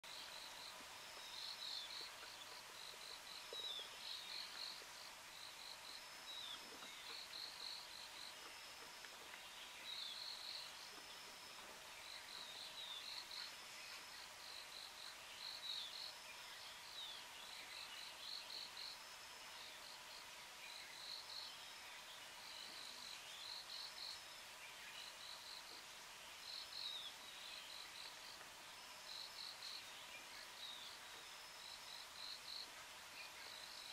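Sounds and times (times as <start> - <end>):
insects chirping: 0.1 - 33.9.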